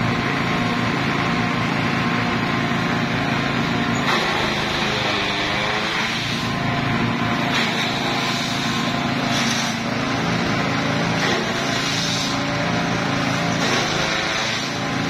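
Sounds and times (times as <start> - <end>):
small engine humming: 0.0 - 15.0
blades chopping grass: 2.9 - 15.0.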